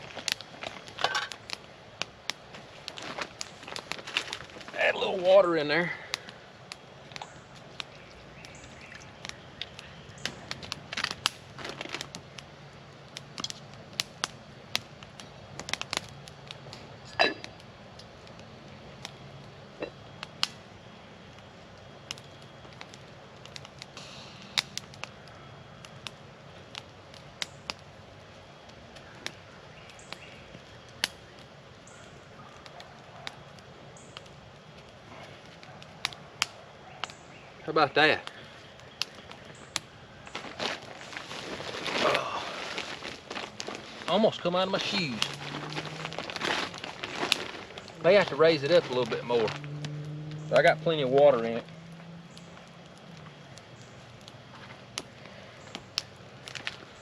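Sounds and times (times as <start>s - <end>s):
campfire crackling: 0.0s - 57.0s
sharp fire pops: 0.0s - 57.0s.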